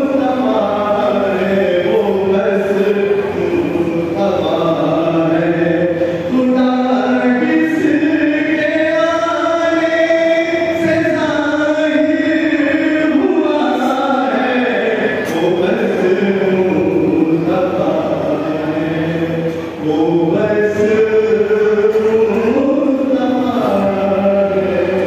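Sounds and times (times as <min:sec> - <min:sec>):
devotional chanting: 0:00.0 - 0:25.0.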